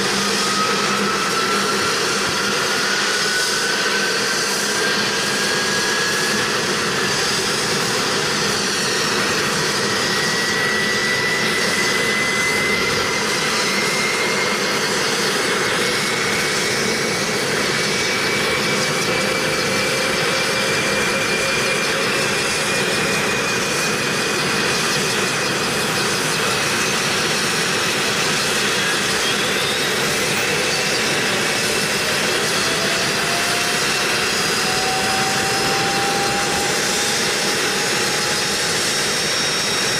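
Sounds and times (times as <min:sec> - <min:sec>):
helicopter turbine engines running: 0:00.0 - 0:39.9.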